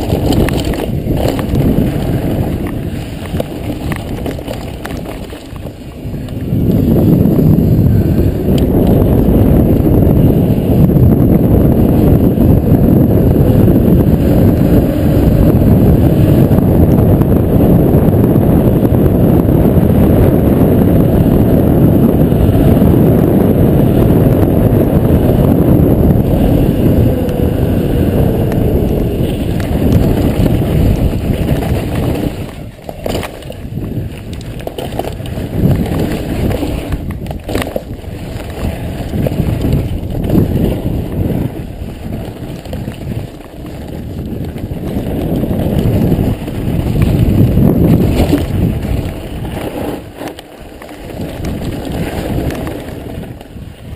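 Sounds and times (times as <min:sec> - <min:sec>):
bike clicking and knocking: 0:00.0 - 0:17.8, 0:18.4 - 0:53.6
tyres humming on asphalt: 0:00.0 - 0:53.9
wind noise on microphone: 0:00.0 - 0:53.9.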